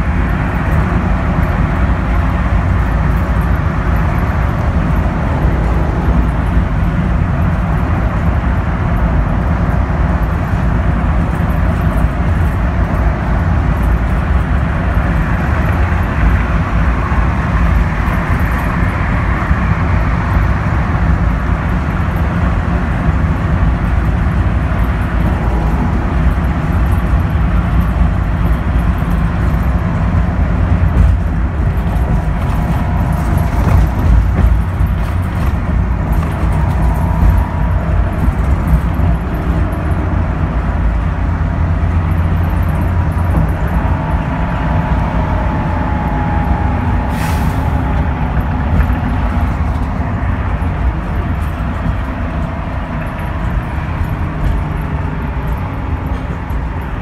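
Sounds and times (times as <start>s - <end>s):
bus engine running: 0.0s - 57.0s
road and tyre noise: 0.0s - 57.0s.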